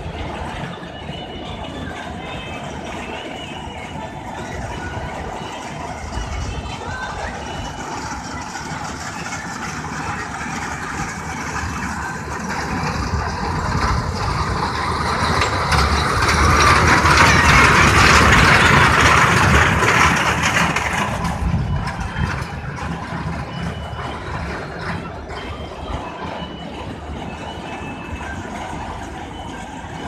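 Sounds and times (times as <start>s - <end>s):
miniature train passing: 0.0s - 30.0s.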